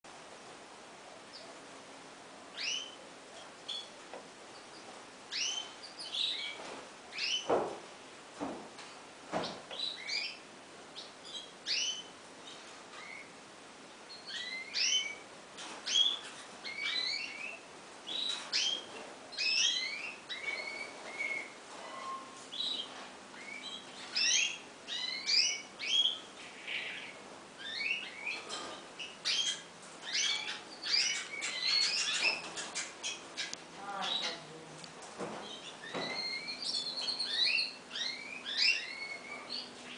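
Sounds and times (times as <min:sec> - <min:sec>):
bird chirping: 0:02.5 - 0:07.6, 0:09.4 - 0:13.3, 0:14.0 - 0:34.6, 0:35.4 - 0:39.9.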